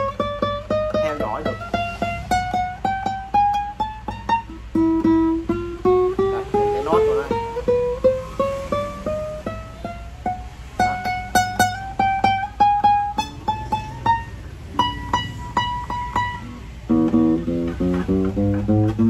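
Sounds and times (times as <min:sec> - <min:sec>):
classical guitar melody: 0:00.0 - 0:19.0.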